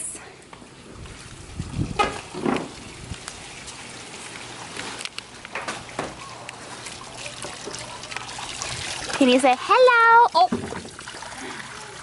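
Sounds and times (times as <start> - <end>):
water splashing into pool: 1.4 - 12.0.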